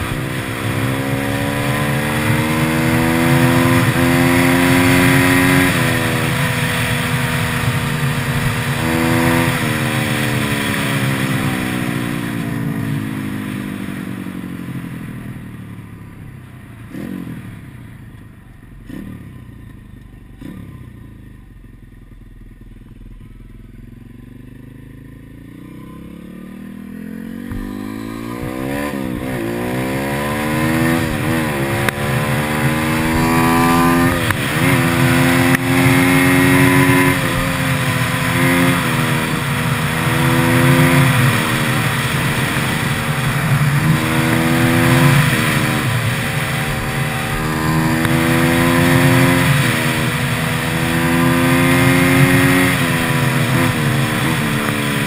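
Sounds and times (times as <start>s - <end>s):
motorbike engine accelerating: 0.0s - 15.3s, 18.6s - 55.0s.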